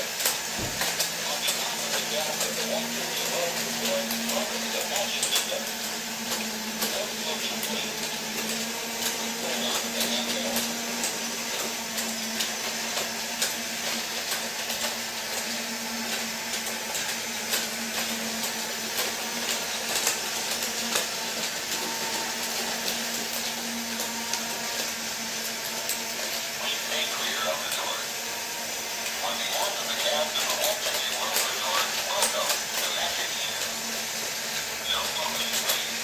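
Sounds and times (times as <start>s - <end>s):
toy train motors whirring: 0.0s - 36.0s.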